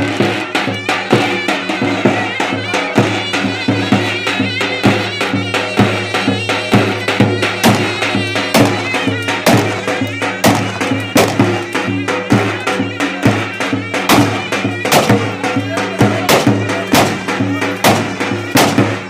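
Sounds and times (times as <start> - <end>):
shrill reed-pipe melody: 0.0 - 19.0
steady drum beat: 0.0 - 19.0.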